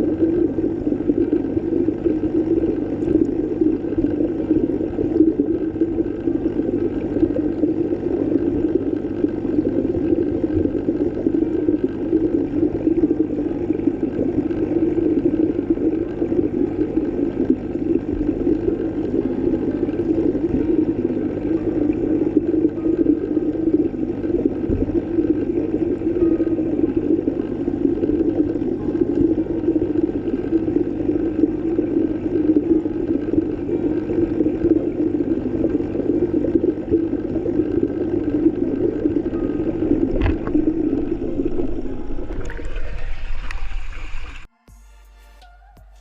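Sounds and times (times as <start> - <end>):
muffled underwater rush: 0.0 - 44.5.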